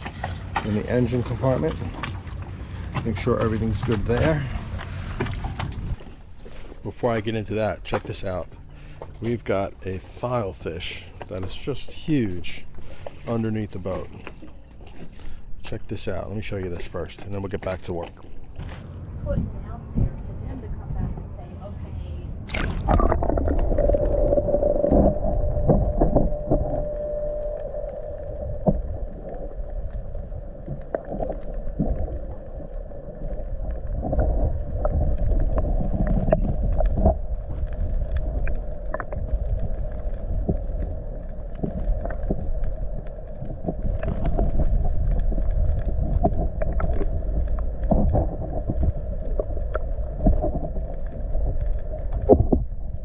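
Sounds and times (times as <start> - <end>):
muffled underwater rumble: 0.0 - 53.0.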